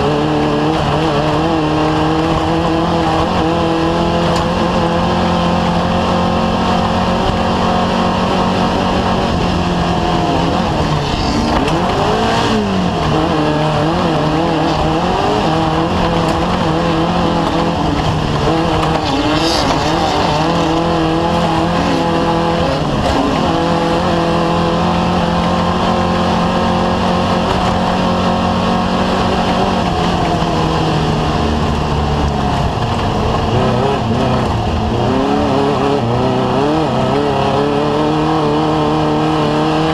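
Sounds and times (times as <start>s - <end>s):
race vehicle engine revving: 0.0s - 39.9s
wind and tyre noise: 0.0s - 39.9s.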